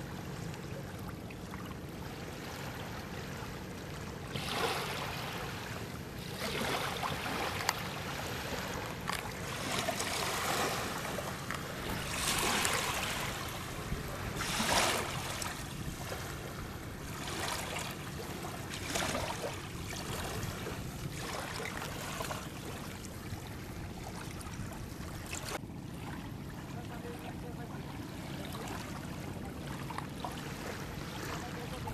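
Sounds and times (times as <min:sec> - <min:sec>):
river water splashing around boat: 0:00.0 - 0:31.9
steady low hum: 0:00.1 - 0:31.9.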